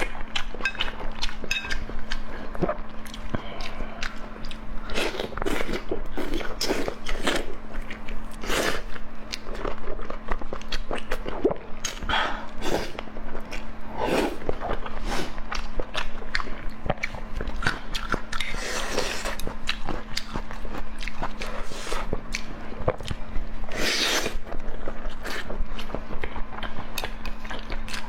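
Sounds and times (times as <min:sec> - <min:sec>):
faint hum: 0:00.0 - 0:28.0
wet chewing and biting: 0:00.0 - 0:28.0.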